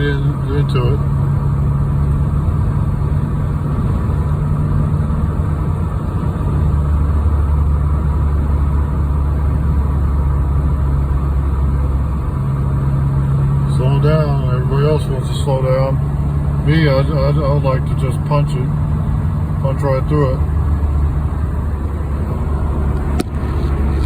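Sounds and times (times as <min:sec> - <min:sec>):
car engine and road noise: 0:00.0 - 0:24.0
deep drone: 0:00.0 - 0:24.0.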